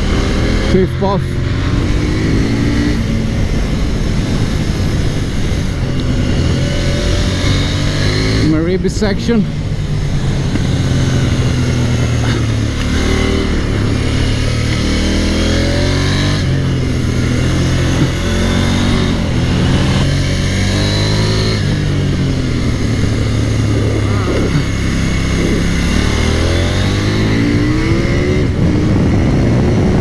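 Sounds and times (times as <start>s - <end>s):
motorcycle engine revving hard: 0.0s - 8.8s, 9.8s - 30.0s.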